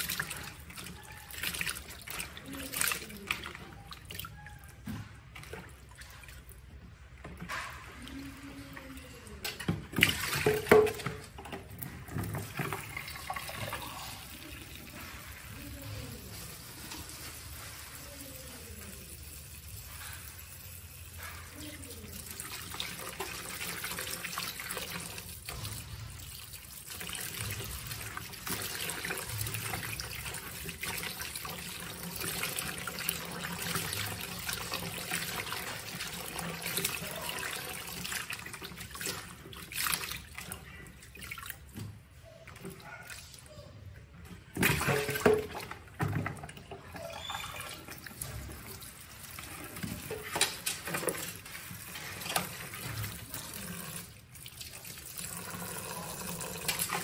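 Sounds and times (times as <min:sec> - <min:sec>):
water splashing: 0:00.0 - 0:18.9, 0:21.2 - 0:43.4, 0:44.5 - 0:57.0
tap water running into basin: 0:00.0 - 0:43.0, 0:44.0 - 0:57.0
hands rubbing vegetables in water: 0:00.0 - 0:55.9.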